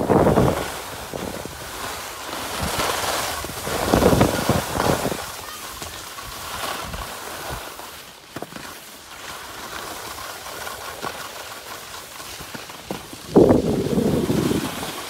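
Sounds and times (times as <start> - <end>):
skis gliding over snow: 0.0 - 15.0.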